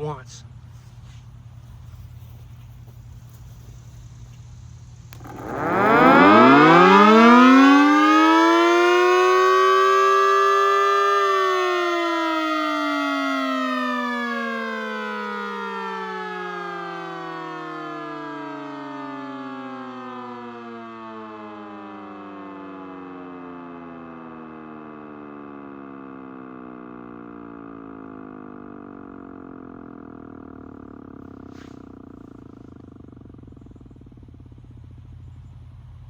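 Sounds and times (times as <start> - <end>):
sirens winding down: 5.1 - 34.6.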